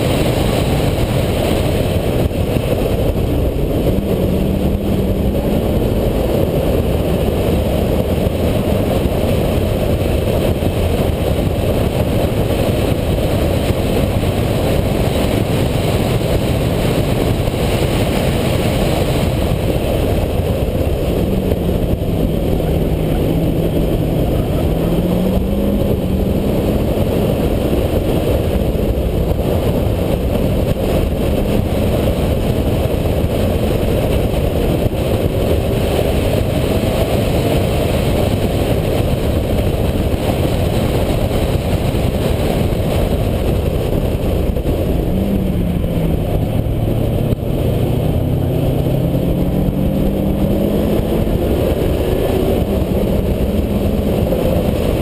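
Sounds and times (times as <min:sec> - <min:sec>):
car engine revving: 0:00.0 - 0:55.0
wind and road noise: 0:00.0 - 0:55.0.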